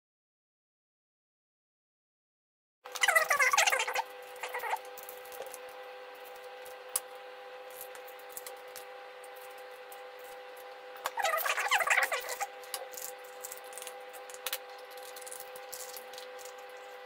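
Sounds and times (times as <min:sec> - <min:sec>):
steady hum: 0:02.9 - 0:17.0
knife slicing and scraping: 0:03.0 - 0:17.0.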